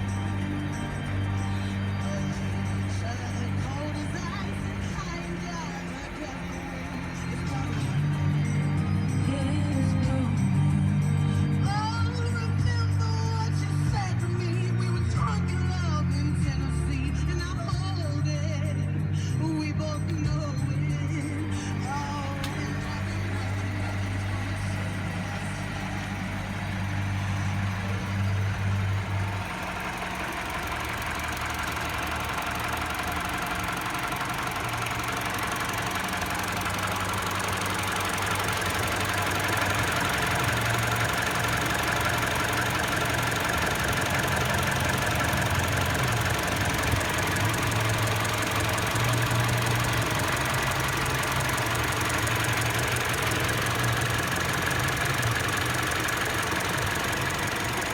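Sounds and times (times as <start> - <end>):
car engine idling with knock: 0.0 - 57.9.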